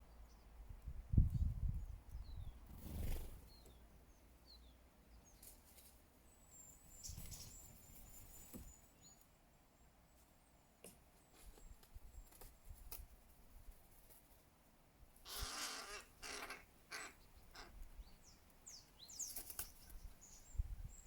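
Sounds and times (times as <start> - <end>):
small birds chirping: 0.0 - 13.0, 15.2 - 21.0.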